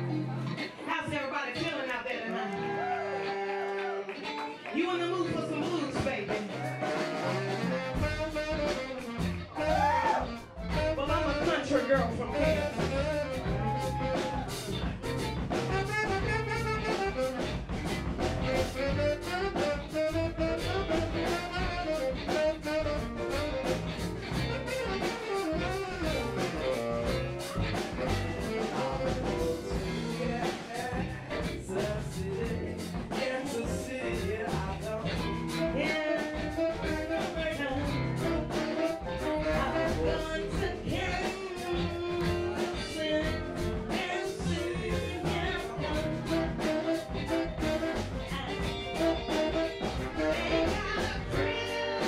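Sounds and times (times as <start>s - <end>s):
live blues band playing: 0.0s - 52.0s.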